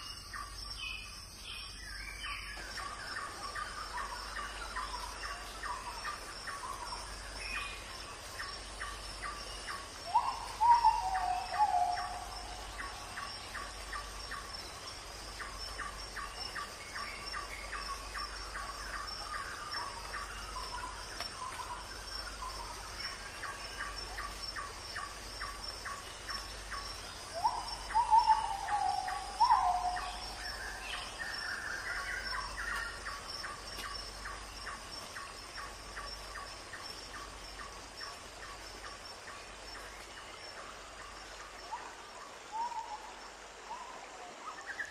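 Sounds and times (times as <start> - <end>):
high insect drone: 0.0 - 43.7.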